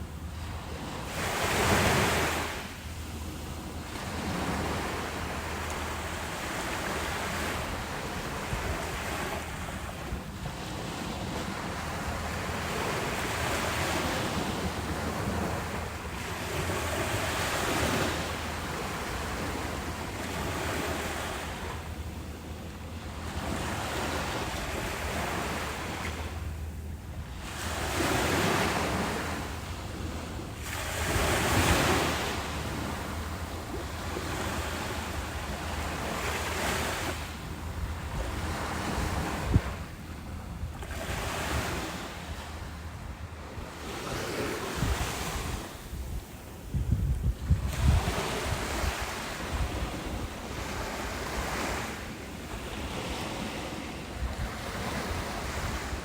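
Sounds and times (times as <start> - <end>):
ocean waves breaking on beach: 0.0 - 56.0
wind on microphone: 3.5 - 21.8, 27.2 - 56.0.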